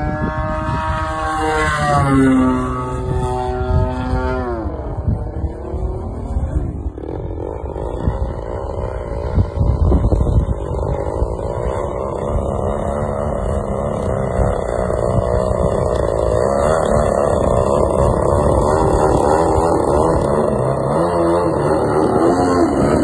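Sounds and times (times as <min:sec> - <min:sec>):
model airplane motor and propeller: 0:00.0 - 0:23.0
wind rumble on microphone: 0:00.0 - 0:23.0.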